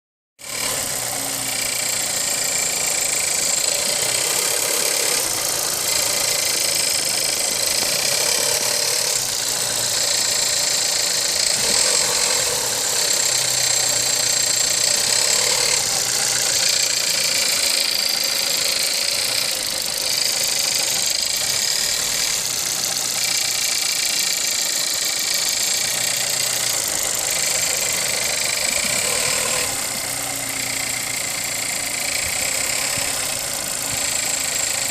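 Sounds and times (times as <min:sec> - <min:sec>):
car engine running: 0:00.4 - 0:34.9.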